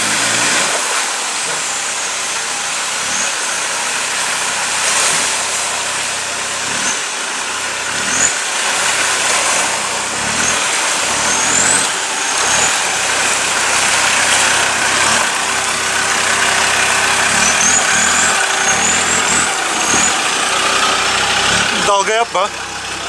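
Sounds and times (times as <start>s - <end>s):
water rushing and splashing: 0.0s - 22.4s
car engine running: 0.0s - 23.0s.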